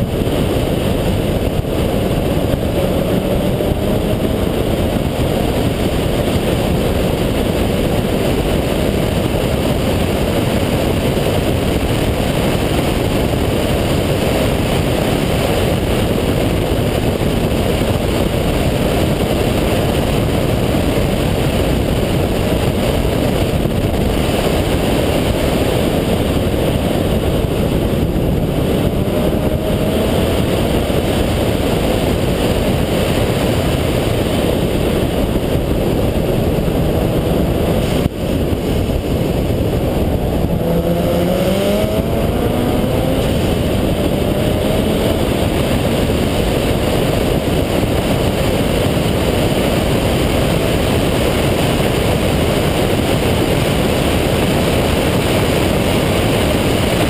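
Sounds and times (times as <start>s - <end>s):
rotary engine running hard: 0.0s - 57.0s
wind and road noise: 0.0s - 57.0s.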